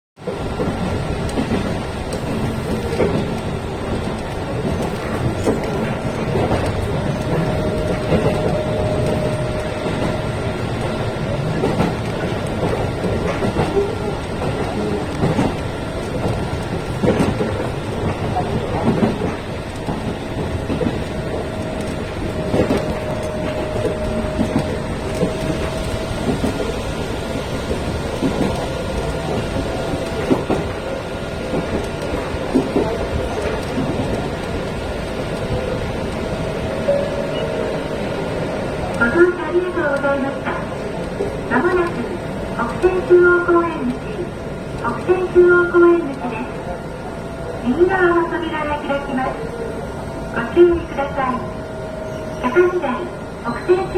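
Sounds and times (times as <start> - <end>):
train wheels rumbling on rail: 0.2 - 53.9.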